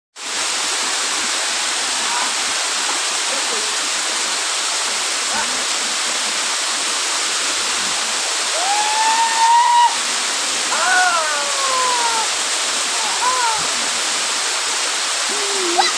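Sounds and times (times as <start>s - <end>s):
waterfall roaring: 0.2s - 15.9s.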